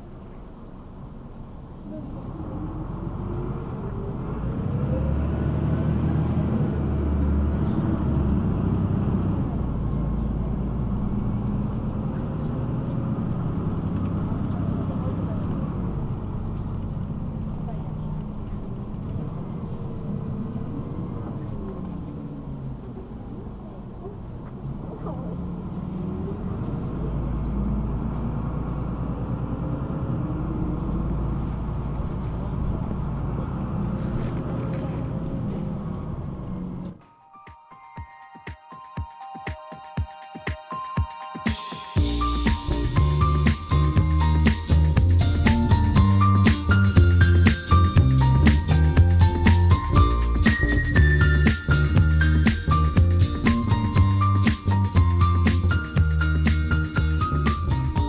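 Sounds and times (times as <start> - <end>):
bus engine rumbling: 0.0 - 37.0, 42.0 - 58.0.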